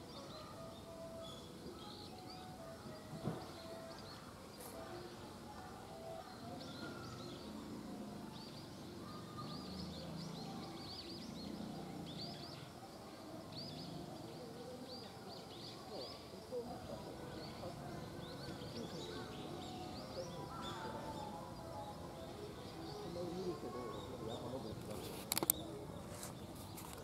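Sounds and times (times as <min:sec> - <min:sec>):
low background murmur: 0:00.0 - 0:27.0
small birds chirping: 0:00.0 - 0:27.0.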